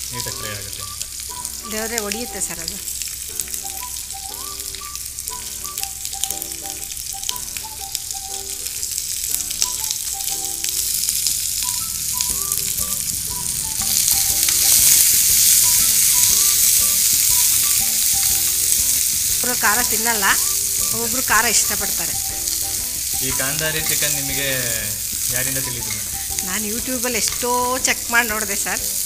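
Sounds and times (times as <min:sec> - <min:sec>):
chillies popping: 0:00.0 - 0:29.0
sizzling in hot oil: 0:00.0 - 0:29.0
spatula stirring pan: 0:01.0 - 0:29.0.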